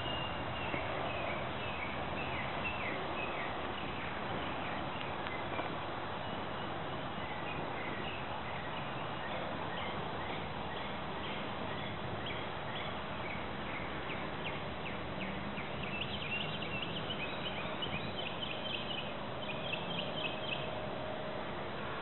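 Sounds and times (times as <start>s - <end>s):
bird chirping: 0.0s - 20.7s
steady outdoor hiss: 0.0s - 22.0s.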